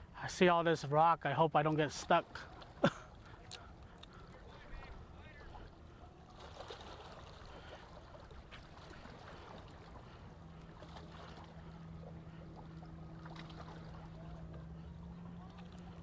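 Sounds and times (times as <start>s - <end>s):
motorboat engine hum: 0.0s - 16.0s.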